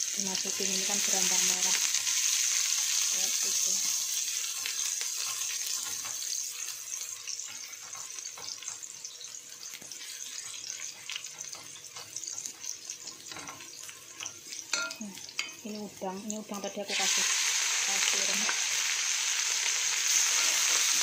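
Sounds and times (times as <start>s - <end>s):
shallots sizzling in oil: 0.0s - 21.0s.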